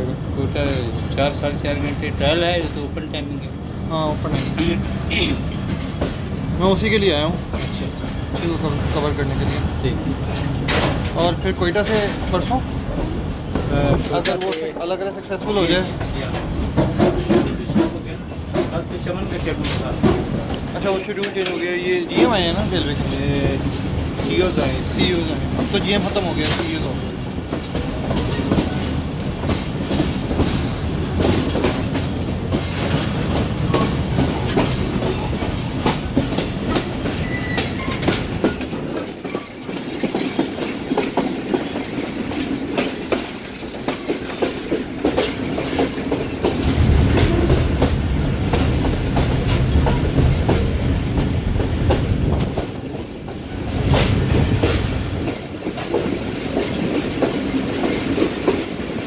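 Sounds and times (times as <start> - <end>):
train rumble: 0.0 - 59.0
wheels clacking over rail joints: 0.5 - 59.0.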